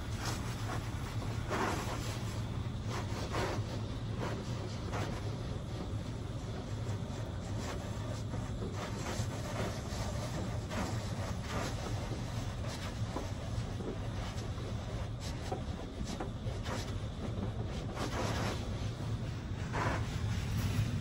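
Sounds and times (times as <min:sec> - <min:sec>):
steady low hum: 0:00.0 - 0:21.0
water jets spraying on car: 0:00.0 - 0:21.0.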